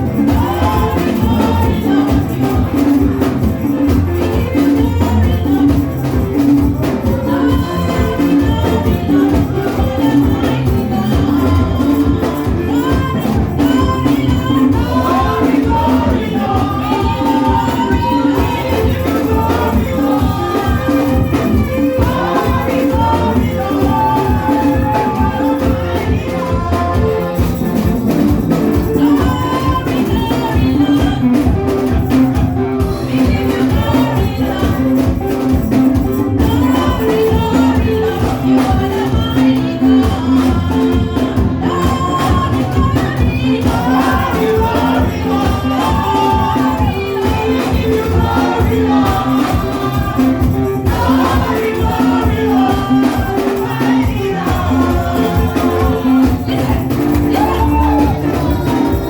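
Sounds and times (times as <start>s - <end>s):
band playing gospel music: 0.0s - 59.0s
voices singing: 0.0s - 59.0s.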